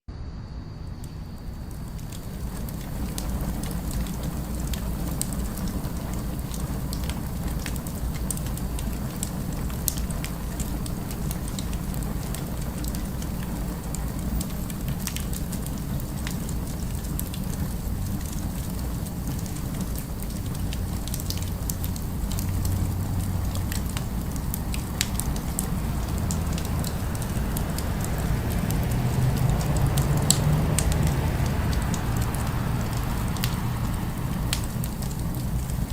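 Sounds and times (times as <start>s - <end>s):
city ambience rumble: 0.1s - 35.9s
fire crackling and popping: 0.9s - 35.9s.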